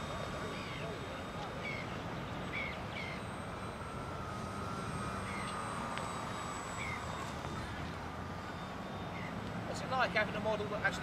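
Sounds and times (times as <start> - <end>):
model aeroplane motor whine: 0.0 - 11.0.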